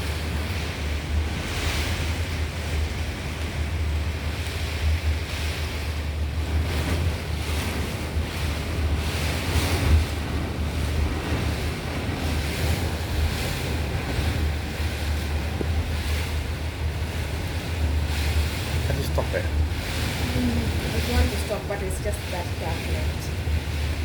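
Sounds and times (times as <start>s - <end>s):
hurricane wind gusts: 0.0s - 24.0s
wind buffeting microphone: 0.0s - 24.0s.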